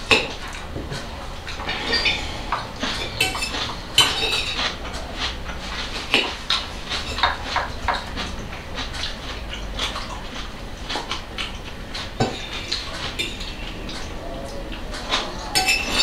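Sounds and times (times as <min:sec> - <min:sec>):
forks clinking and scraping plates: 0:00.1 - 0:16.0.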